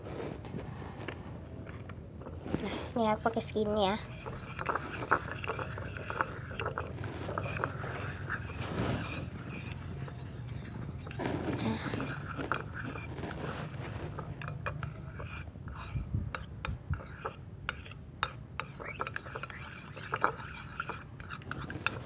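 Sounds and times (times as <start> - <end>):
spoon stirring mixture in bowl: 1.6 - 22.0.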